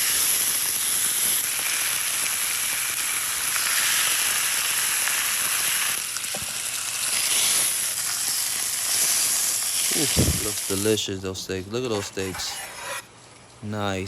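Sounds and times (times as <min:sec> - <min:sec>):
steak sizzling on hot stone: 0:00.0 - 0:13.1.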